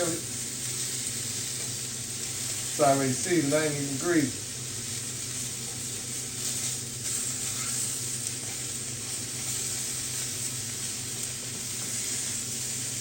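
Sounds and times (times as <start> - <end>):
sausages sizzling in skillet: 0.0 - 13.0.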